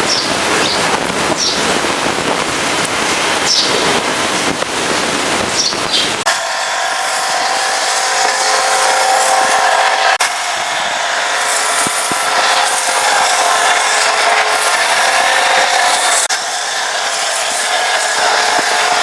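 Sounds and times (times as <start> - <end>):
pressure washer water jet hissing: 0.0 - 19.0
pump humming: 0.0 - 19.0.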